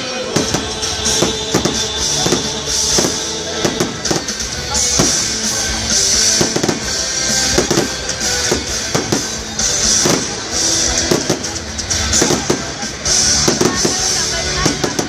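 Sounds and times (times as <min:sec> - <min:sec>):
fireworks bangs: 0:00.0 - 0:15.0
fireworks crackling: 0:00.0 - 0:15.0
loud music: 0:00.0 - 0:15.0.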